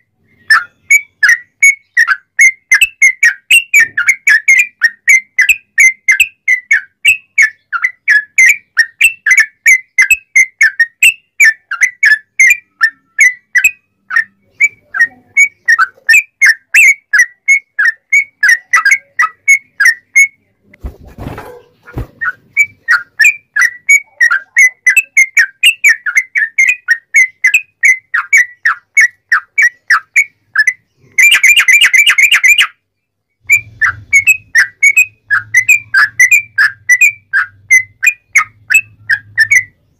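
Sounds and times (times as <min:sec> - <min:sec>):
bird singing whistled chirps: 0:00.2 - 0:20.4, 0:22.2 - 0:32.8, 0:33.4 - 0:39.9.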